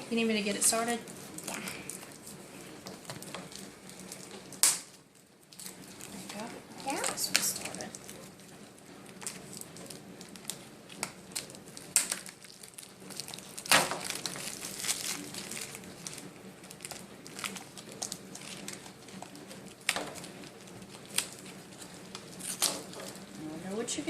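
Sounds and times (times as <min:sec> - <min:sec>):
plastic wrapping crinkling: 0:00.0 - 0:24.0.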